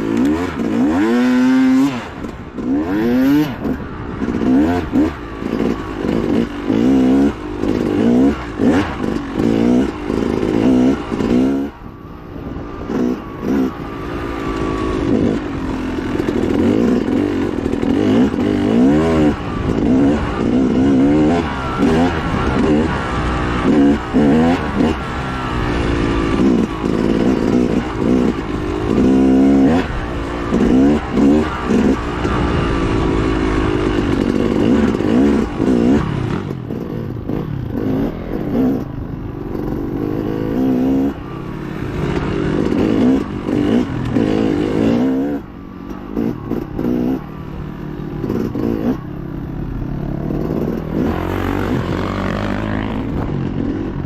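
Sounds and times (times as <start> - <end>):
bike rattling and scraping: 0.0 - 54.0
dirt bike engine revving: 0.0 - 54.0.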